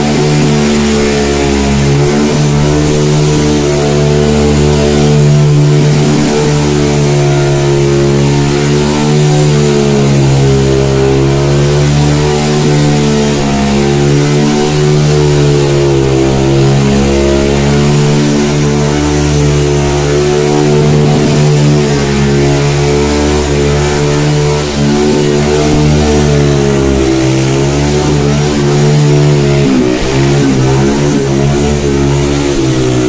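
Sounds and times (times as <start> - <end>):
atv engine running loud: 0.0 - 33.0.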